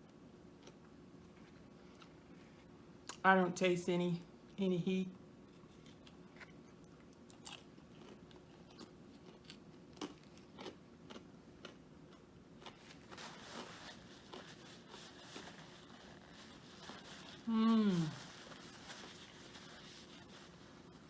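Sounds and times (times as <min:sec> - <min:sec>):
chewing crispy fried food: 0:00.6 - 0:03.2, 0:05.4 - 0:21.0.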